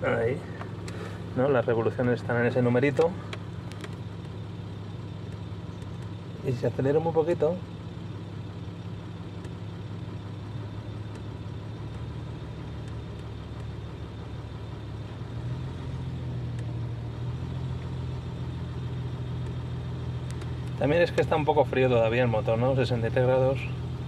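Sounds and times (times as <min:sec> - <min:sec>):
engine tapping: 0:00.0 - 0:15.4, 0:16.2 - 0:24.0
diesel engine idling: 0:00.0 - 0:24.0.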